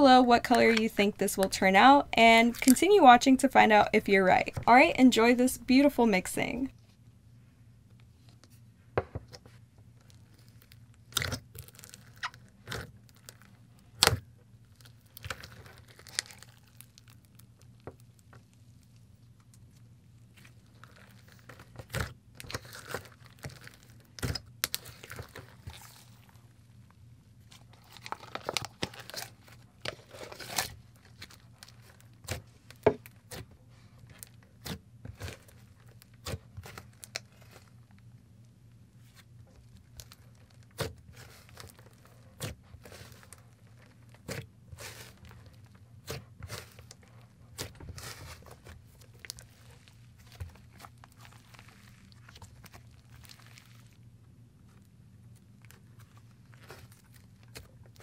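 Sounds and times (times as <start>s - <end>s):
slime crackling and squishing: 9.9s - 58.0s.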